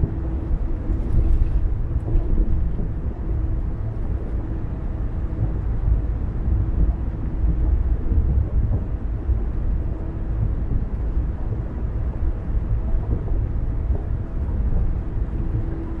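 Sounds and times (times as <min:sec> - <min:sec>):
car driving low rumble: 0:00.0 - 0:16.0.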